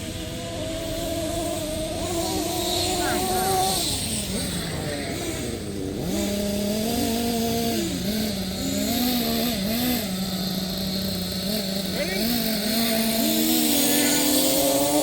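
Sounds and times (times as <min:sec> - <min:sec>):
small model engines revving: 0:00.0 - 0:15.0.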